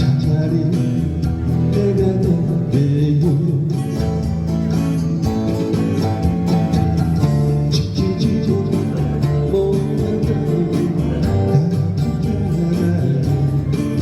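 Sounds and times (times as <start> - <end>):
live band instrumental music: 0.0 - 14.0.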